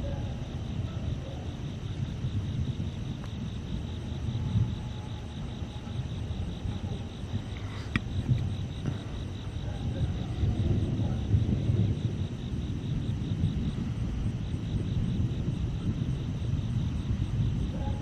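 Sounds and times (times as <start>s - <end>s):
crickets chirping: 0.0s - 18.0s
thunder rumbling: 0.0s - 18.0s.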